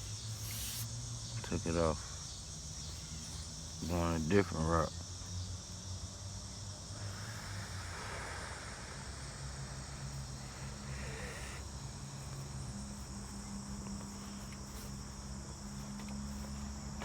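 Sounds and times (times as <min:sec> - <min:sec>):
high-pitched insect chirring: 0:00.0 - 0:16.4.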